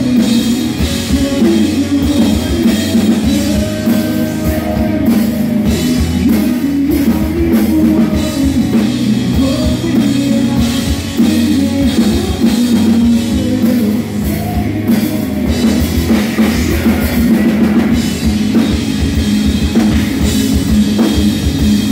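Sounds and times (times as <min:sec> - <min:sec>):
man singing lead vocal: 0:00.0 - 0:18.7
distorted electric guitars: 0:00.0 - 0:21.9
drum kit: 0:00.0 - 0:21.9.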